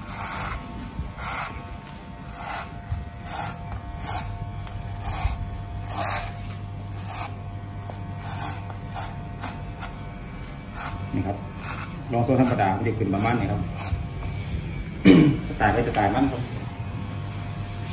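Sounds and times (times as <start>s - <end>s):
clipper rasping through hair: 0.0s - 14.4s
electric hair clipper humming: 0.0s - 17.9s.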